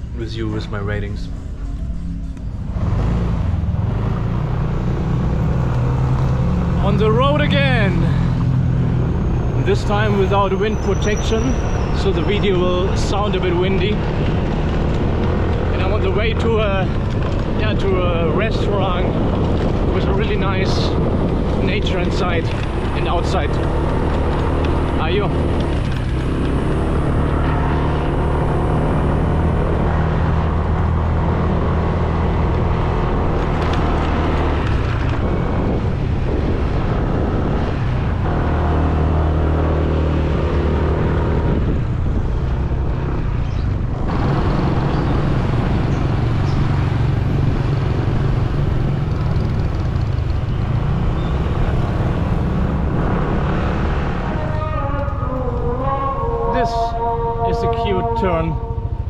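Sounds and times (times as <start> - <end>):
wind on microphone: 8.1 - 26.7, 28.4 - 59.0.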